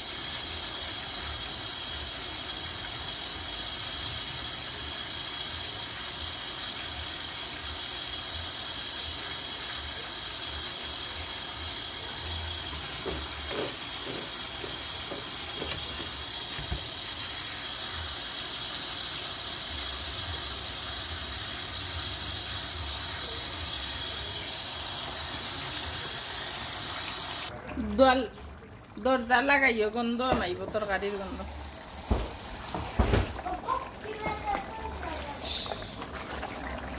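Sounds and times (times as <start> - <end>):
faucet water splashing: 0.0 - 36.9.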